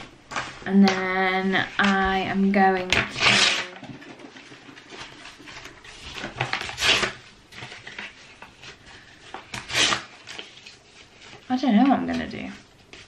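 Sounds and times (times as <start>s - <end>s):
rustling handling noises: 0.0s - 13.0s.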